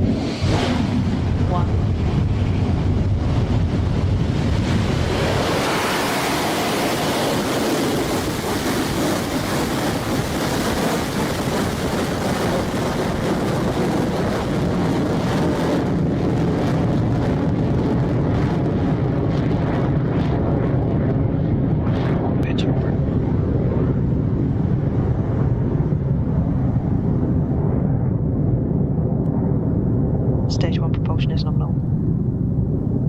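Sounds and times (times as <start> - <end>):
rocket engines roaring: 0.0 - 33.0.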